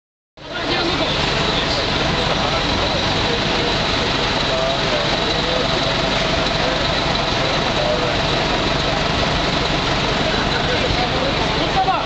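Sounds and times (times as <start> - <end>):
bus engine idling: 0.4 - 12.0
city traffic roar: 0.4 - 12.0.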